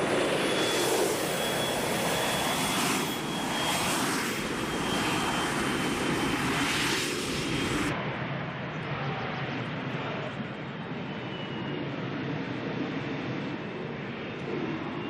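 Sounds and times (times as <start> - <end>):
jet engine rushing and whining: 0.0 - 15.0.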